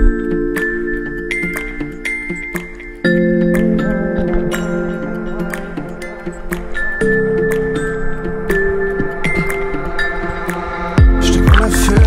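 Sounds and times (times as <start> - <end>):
light ticking percussion: 0.0 - 12.0.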